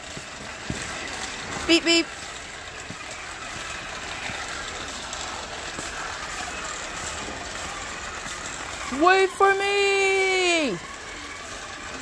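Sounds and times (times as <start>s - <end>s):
toy tractor electric motor: 0.0s - 12.0s.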